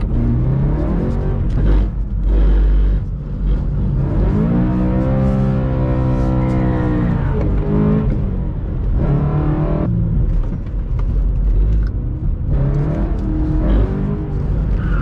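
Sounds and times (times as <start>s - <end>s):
car engine revving: 0.0s - 15.0s
road and tyre rumble: 0.0s - 15.0s.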